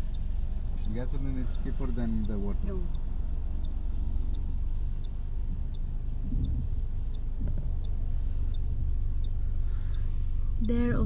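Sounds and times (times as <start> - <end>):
car road and engine rumble: 0.0 - 11.0
turn signal ticking: 0.0 - 11.0.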